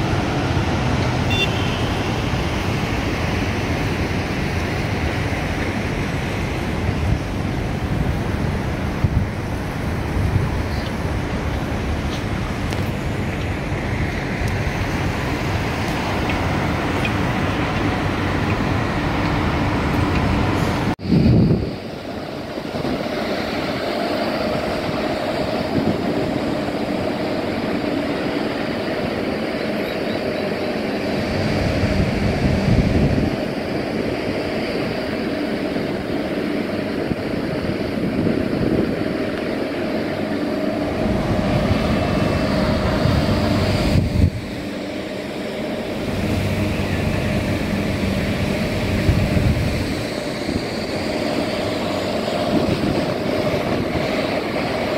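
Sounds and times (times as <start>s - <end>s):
city traffic noise: 0.0s - 54.9s
constant low hum: 0.0s - 54.9s
wind buffeting microphone: 0.0s - 54.9s.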